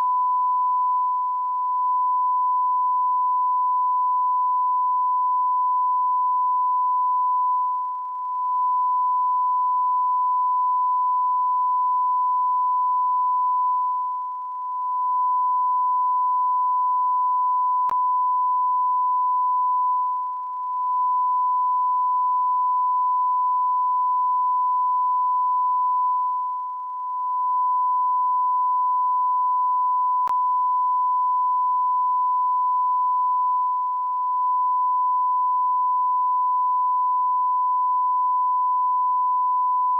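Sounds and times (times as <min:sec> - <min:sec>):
continuous electronic beep tone: 0:00.0 - 0:39.9.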